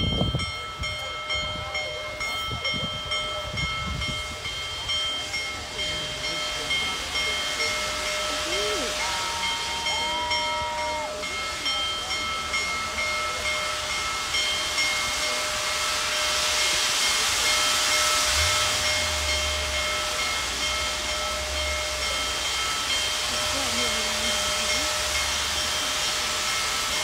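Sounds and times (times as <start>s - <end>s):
steam locomotive hissing steam: 0.0s - 27.0s.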